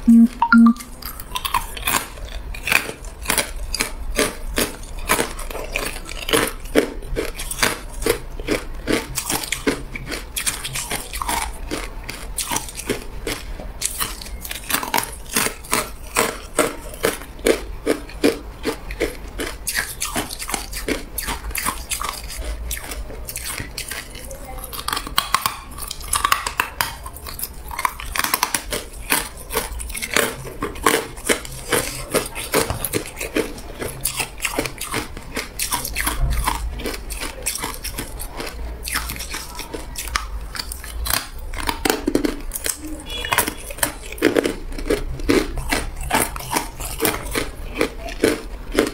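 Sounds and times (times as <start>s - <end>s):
ice cubes crunching: 0.1s - 48.9s.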